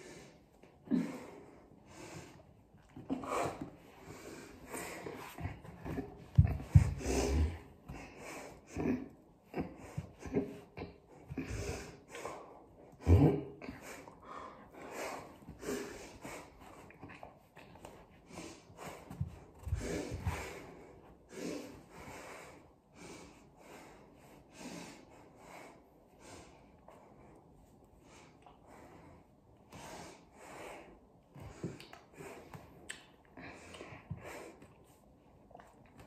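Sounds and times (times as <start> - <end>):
person breathing hard: 0.0 - 17.2, 17.8 - 35.2.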